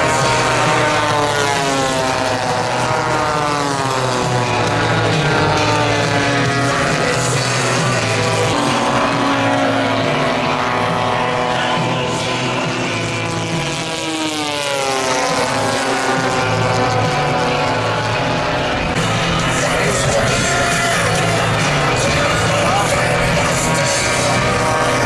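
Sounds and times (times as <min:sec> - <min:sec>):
model plane propeller drone: 0:00.0 - 0:25.0.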